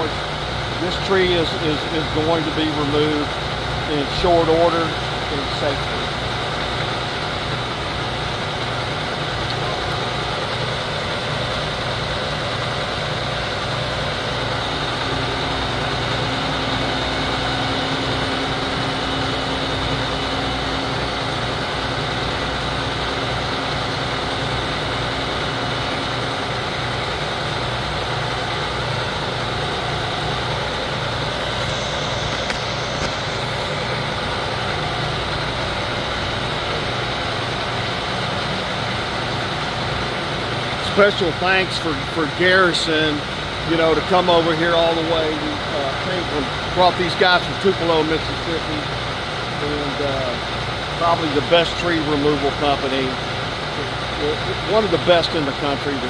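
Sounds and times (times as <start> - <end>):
heavy truck engine running: 0.0 - 56.0.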